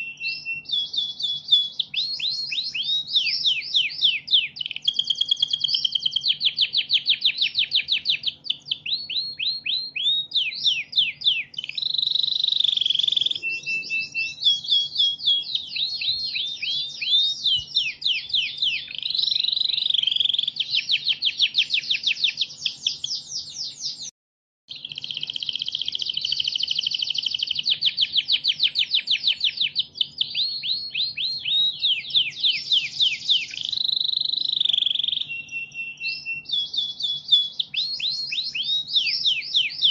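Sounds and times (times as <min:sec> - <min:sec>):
canary singing: 0:00.0 - 0:24.1, 0:24.7 - 0:39.9.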